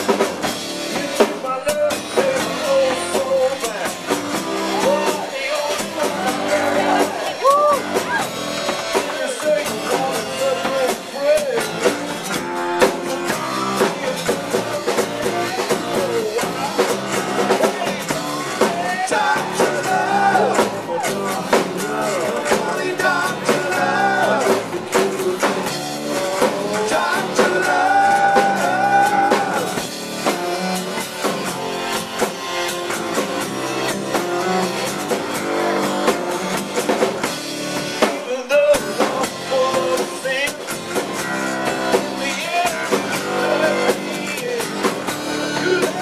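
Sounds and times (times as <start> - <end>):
man singing: 0.0 - 30.4, 38.0 - 46.0
acoustic rock band playing: 0.0 - 46.0.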